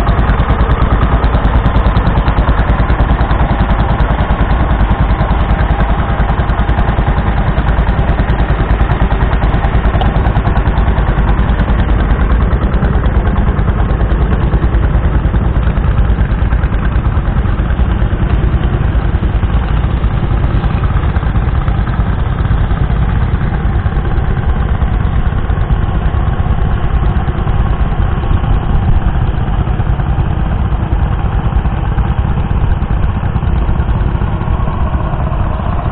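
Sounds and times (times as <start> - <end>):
tractor engine under load: 0.0 - 35.9.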